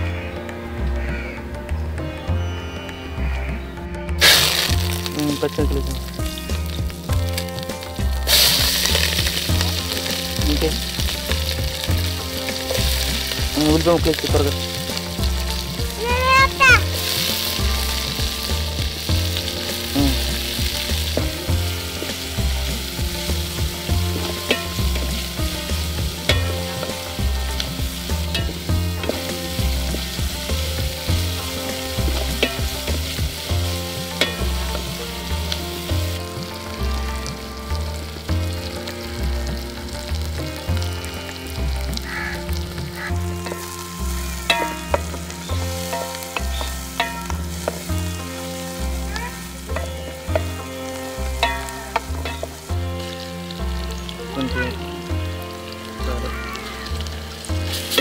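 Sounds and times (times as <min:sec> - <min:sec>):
onions sizzling in a pot: 0:04.2 - 0:58.0.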